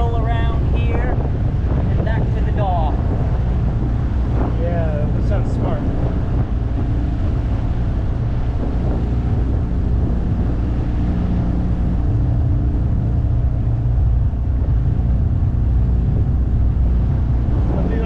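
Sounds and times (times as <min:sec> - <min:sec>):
outboard motor drone: 0:00.0 - 0:18.0
wind and water rushing: 0:00.0 - 0:18.0.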